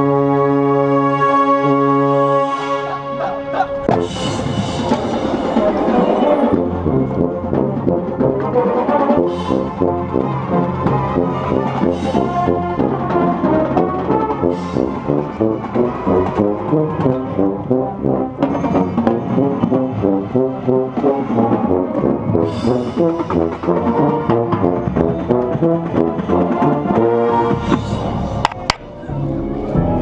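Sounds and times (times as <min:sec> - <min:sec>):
brass ensemble playing chords: 0:00.0 - 0:30.0
tuba playing low part: 0:00.0 - 0:30.0.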